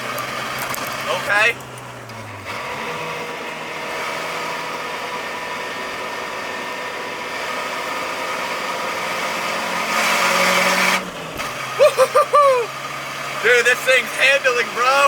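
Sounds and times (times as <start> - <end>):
car engine running inside cabin: 0.0 - 15.0.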